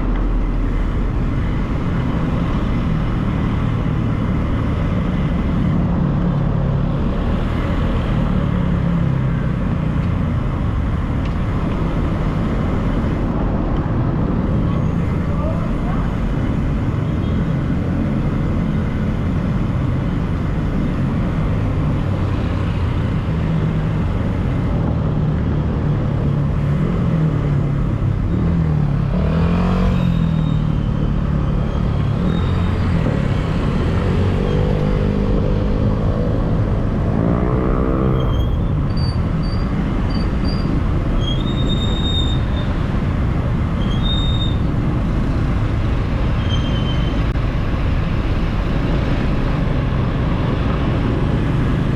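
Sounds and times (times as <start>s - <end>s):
city street traffic rumble: 0.0s - 51.9s.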